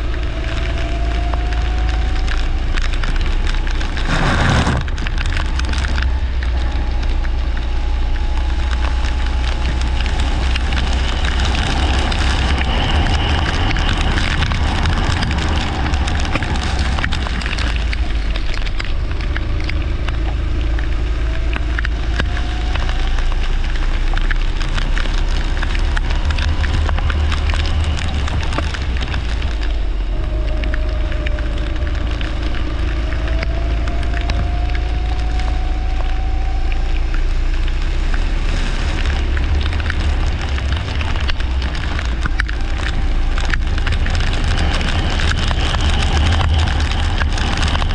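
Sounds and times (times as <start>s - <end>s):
microphone crackle: 0.0s - 47.9s
wind rumble on microphone: 0.0s - 47.9s.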